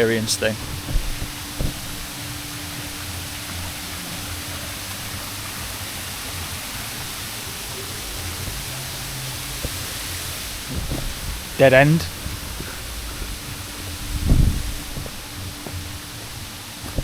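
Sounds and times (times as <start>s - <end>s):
steady rushing hiss: 0.0s - 17.0s
uneven low rumble: 0.0s - 17.0s.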